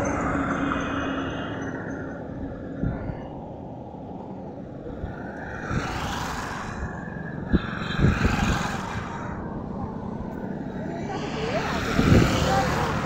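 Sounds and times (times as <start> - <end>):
vehicles passing on highway: 0.0 - 13.0.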